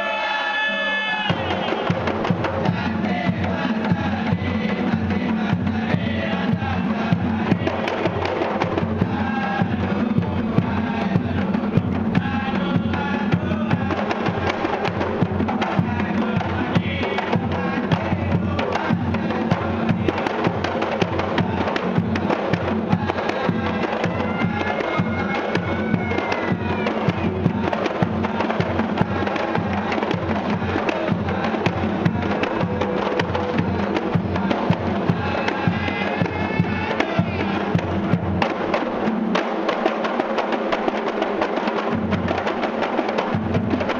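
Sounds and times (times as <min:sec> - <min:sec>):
men singing: 0:00.0 - 0:40.5, 0:41.5 - 0:43.9
frame drums played by hand: 0:01.2 - 0:43.9.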